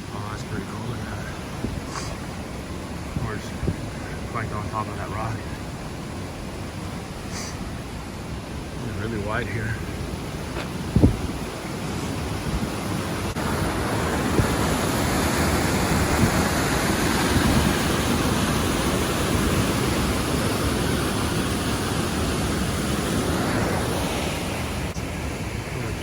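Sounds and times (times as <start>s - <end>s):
creek cascade rushing: 0.0s - 26.0s.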